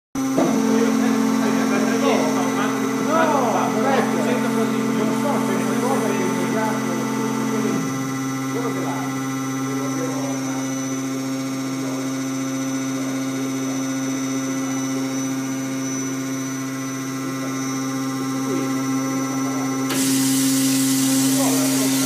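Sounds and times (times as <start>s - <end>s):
machine pump humming: 0.2s - 22.0s.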